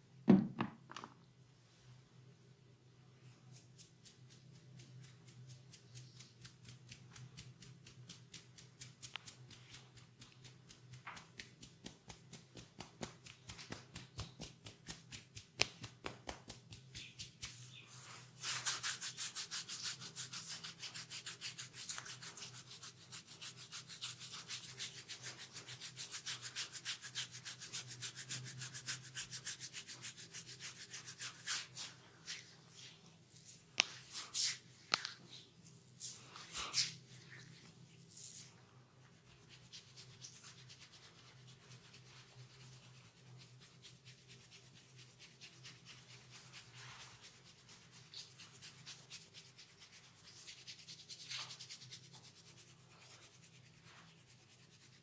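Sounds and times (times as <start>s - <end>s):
hands rubbing during massage: 3.3s - 55.0s.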